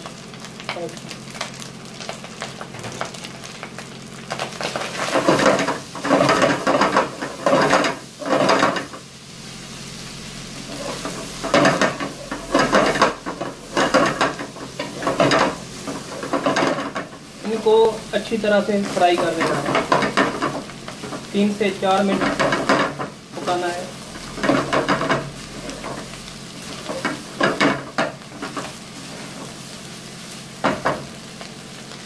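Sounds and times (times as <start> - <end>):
rice sizzling: 0.0 - 32.0.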